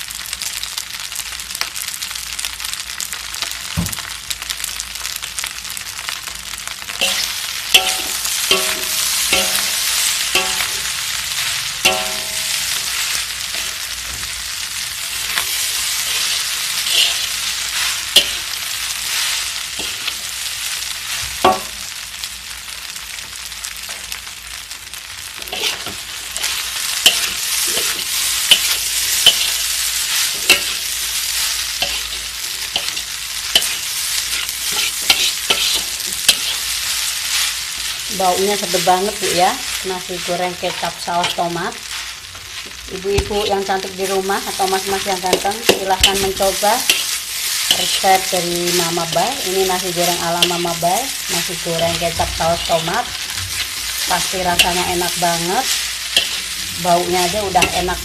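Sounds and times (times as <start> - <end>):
rice sizzling in a wok: 0.0 - 58.0
metal spatula scraping wok: 6.9 - 21.9, 25.4 - 58.0.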